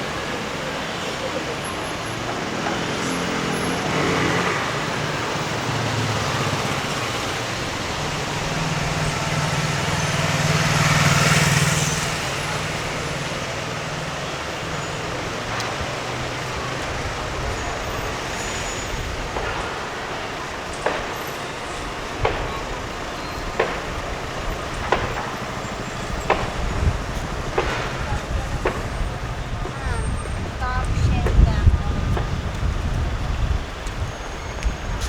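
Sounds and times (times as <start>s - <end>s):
traffic engine hum: 0.0s - 35.0s
vehicle passing close: 2.0s - 35.0s.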